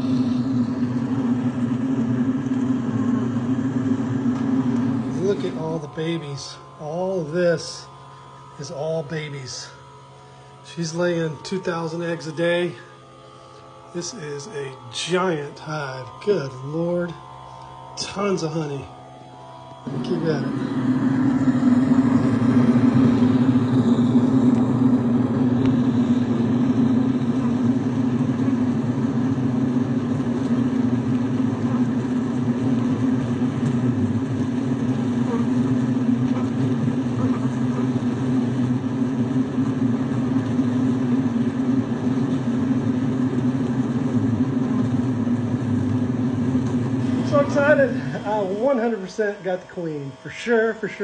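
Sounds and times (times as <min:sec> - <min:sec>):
bee vacuum running: 0:00.0 - 0:51.0.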